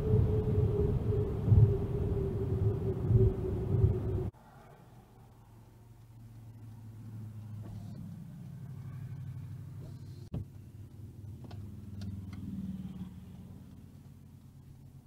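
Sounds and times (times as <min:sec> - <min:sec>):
cars passing: 0:00.0 - 0:14.4.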